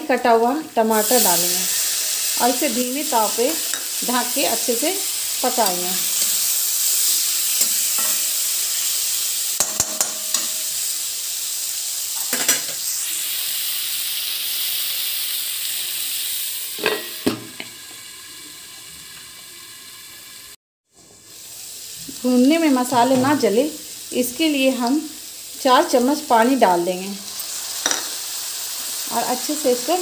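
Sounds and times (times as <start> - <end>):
tomatoes sizzling in hot oil: 0.0 - 30.0.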